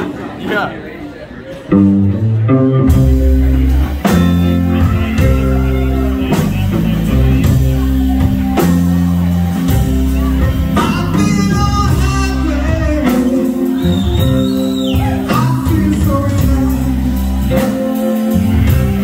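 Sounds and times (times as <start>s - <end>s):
loud live rock band: 1.4s - 19.0s.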